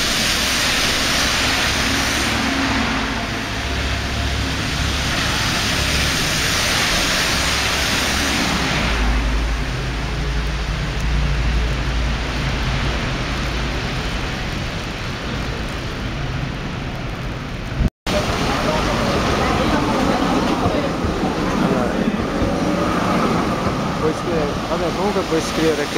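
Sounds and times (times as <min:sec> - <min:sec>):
tyres hissing through slush: 0:00.0 - 0:15.4, 0:18.2 - 0:25.9
low rumble of traffic: 0:00.0 - 0:25.9.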